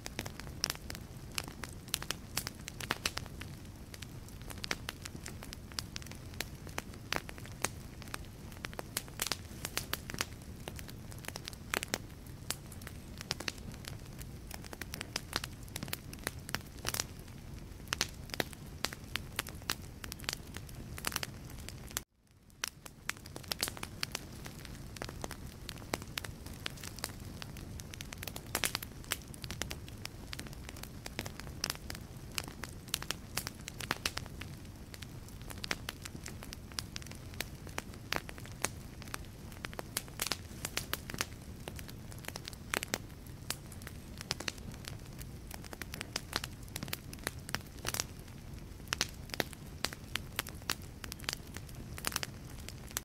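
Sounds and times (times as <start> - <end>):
logs crackling and popping: 0.0 - 53.0
low rumble of flames: 0.0 - 53.0.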